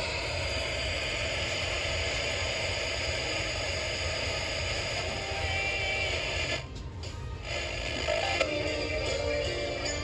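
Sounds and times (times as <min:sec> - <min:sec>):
radio static hiss: 0:00.0 - 0:08.6
faint radio tones: 0:00.0 - 0:10.0.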